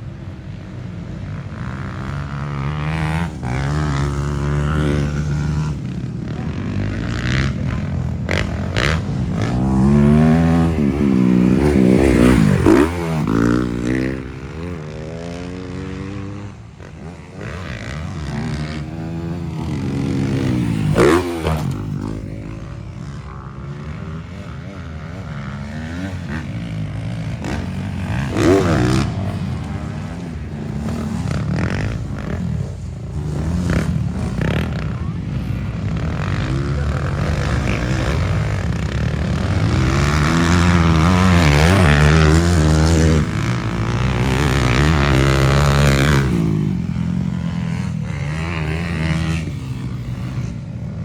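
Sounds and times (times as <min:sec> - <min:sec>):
motocross motorcycles revving: 0:00.0 - 0:51.0.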